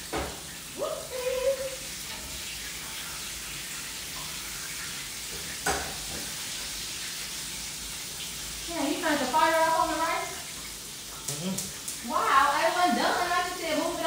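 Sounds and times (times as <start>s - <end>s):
chicken wings frying in oil: 0.0s - 14.0s.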